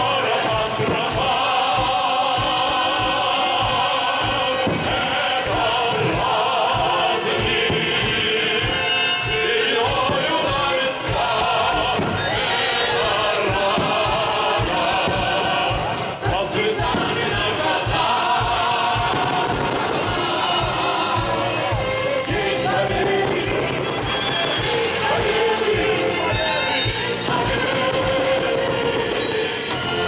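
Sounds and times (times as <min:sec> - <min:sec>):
military band and choir march: 0:00.0 - 0:30.0.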